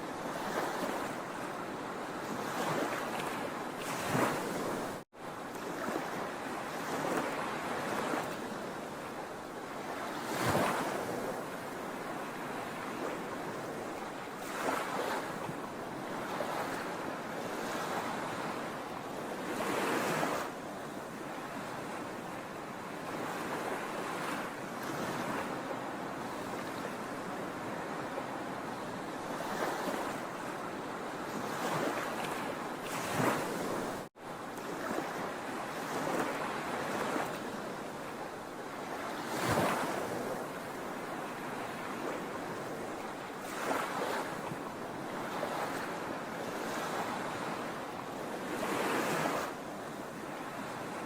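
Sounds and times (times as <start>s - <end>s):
sea waves breaking on shore: 0.0s - 51.0s.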